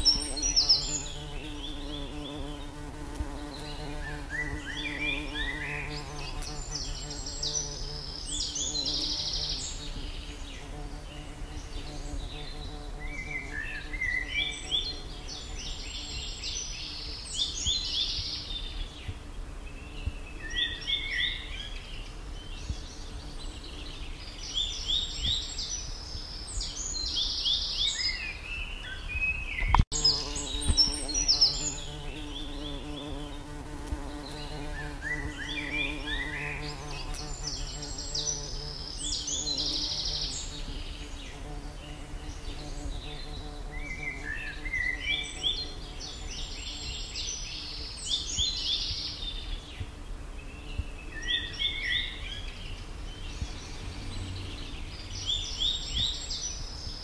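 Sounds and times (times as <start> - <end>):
songbird chirping and trilling: 0.0 - 57.0.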